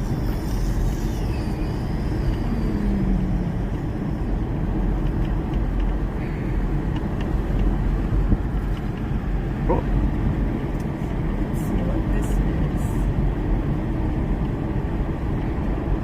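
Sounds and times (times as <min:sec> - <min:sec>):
car engine and road noise: 0:00.0 - 0:16.0
tyres rumbling on road: 0:00.0 - 0:16.0.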